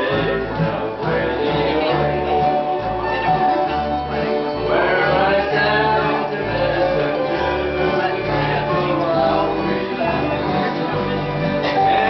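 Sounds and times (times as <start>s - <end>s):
acoustic string band playing: 0.0s - 12.0s
low bass notes: 0.0s - 12.0s.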